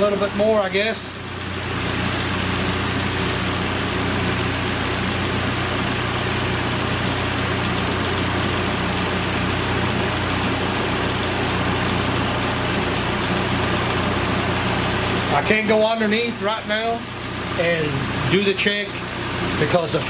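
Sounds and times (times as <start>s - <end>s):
car engine idling: 0.0s - 20.0s
cooling fan blowing: 0.0s - 20.0s.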